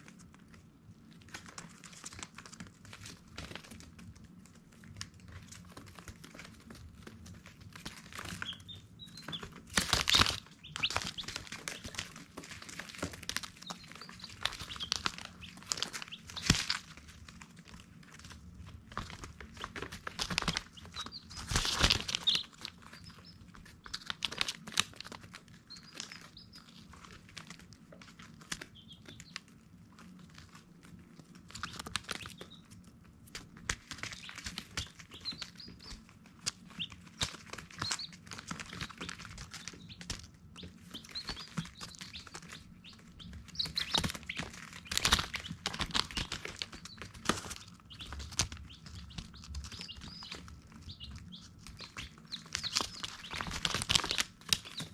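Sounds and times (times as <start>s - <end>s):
baby chicks peeping: 0.0s - 54.9s
clicks and rustles: 0.0s - 54.9s.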